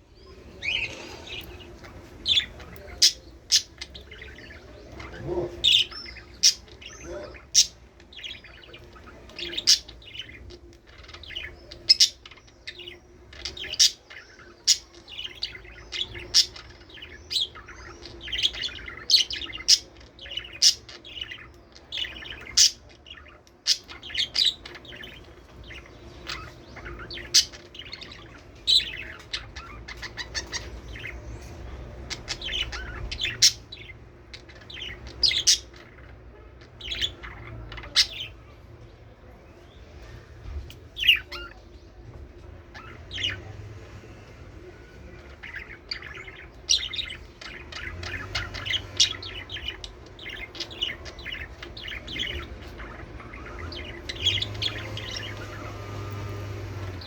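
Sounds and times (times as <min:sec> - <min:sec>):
budgerigars chirping: 0:00.0 - 0:39.0, 0:39.7 - 0:57.0.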